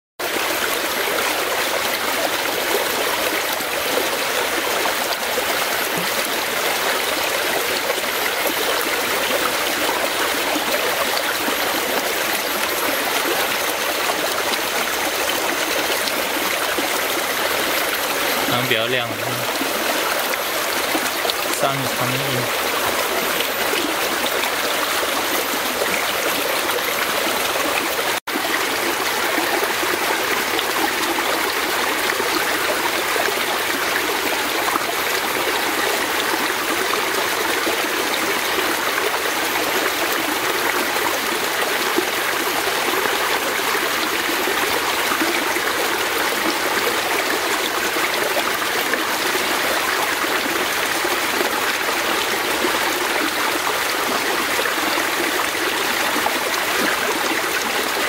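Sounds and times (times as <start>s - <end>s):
stream rushing over rocks: 0.2s - 58.0s.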